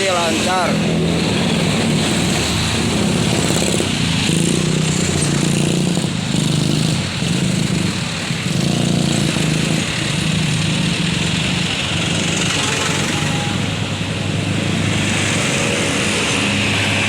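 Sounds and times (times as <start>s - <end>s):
vehicle engines on a road: 0.0s - 17.0s.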